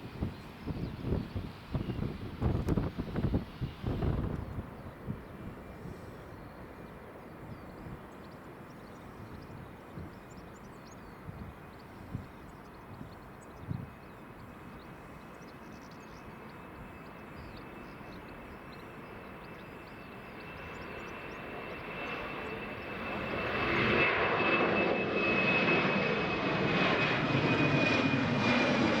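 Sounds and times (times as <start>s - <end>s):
jet engines roaring on take-off: 0.0s - 29.0s.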